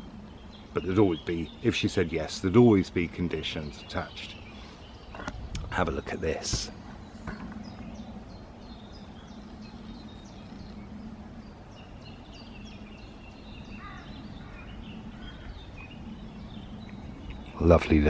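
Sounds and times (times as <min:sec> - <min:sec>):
low background noise: 0:00.0 - 0:18.0
small birds chirping: 0:00.0 - 0:18.0.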